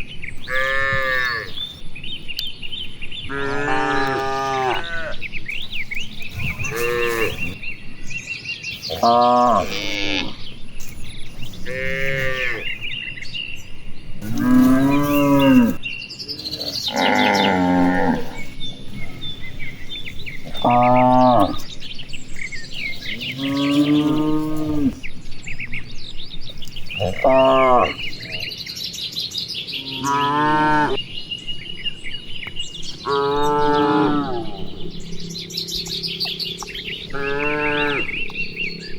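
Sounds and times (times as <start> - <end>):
faint birds chirping: 0.0 - 38.9
cows mooing: 0.4 - 1.8, 3.2 - 7.6, 8.8 - 13.2, 14.2 - 28.6, 29.7 - 31.1, 31.7 - 38.9.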